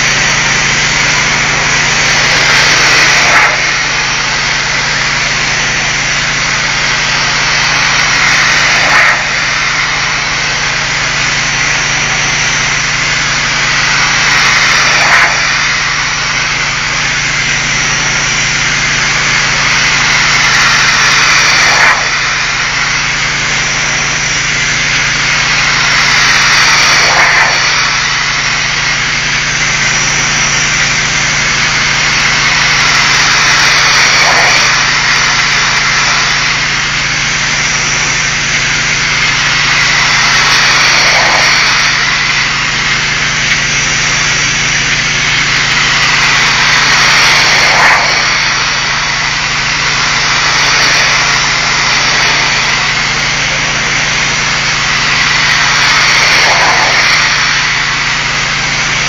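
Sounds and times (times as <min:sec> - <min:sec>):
pressure washer spray on brick: 0:00.0 - 0:59.0
washer engine hum: 0:00.0 - 0:59.0.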